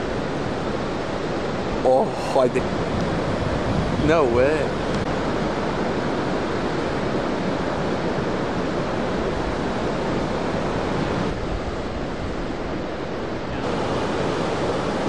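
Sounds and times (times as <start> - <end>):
ocean surf breaking: 0.0 - 15.0
wind on the microphone: 0.0 - 15.0.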